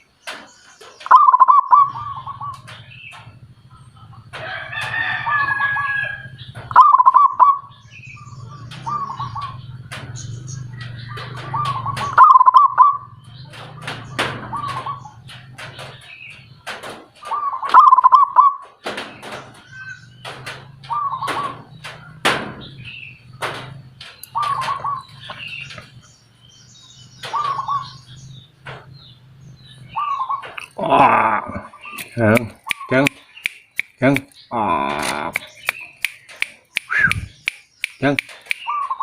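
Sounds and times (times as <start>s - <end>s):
bird singing warbling phrases: 0.0s - 4.4s, 5.0s - 39.0s.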